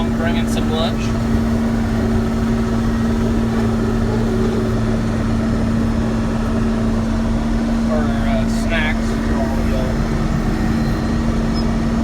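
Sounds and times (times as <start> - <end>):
large engine humming: 0.0 - 12.0.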